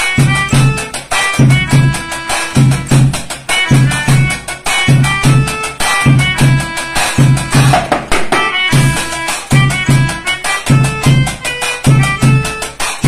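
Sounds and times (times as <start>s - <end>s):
light percussion with cymbal: 0.0s - 13.0s
melodica playing a tune: 0.0s - 13.0s
steady drum beat: 0.0s - 13.0s.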